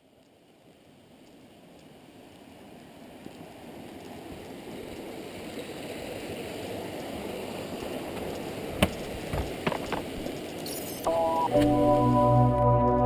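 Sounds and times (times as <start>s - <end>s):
stream rushing over rocks: 1.5s - 12.5s.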